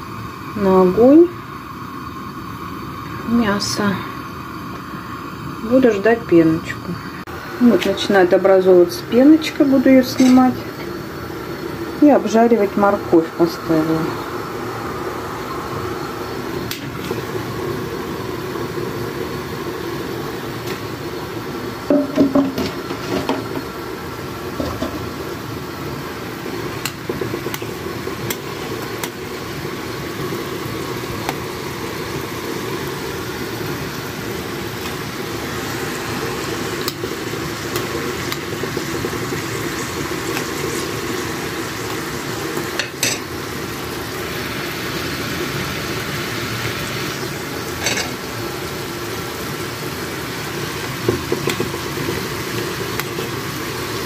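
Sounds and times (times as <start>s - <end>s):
carrots sizzling in a pan: 0.0s - 54.0s
pot of broth boiling: 0.0s - 54.0s.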